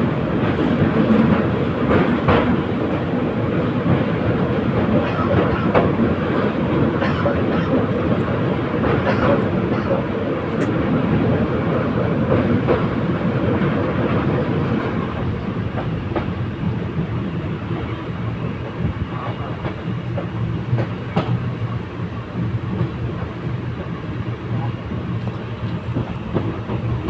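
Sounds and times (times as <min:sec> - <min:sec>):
train wheels rumbling on rail: 0:00.0 - 0:27.0
rail joint clicks and knocks: 0:00.2 - 0:27.0.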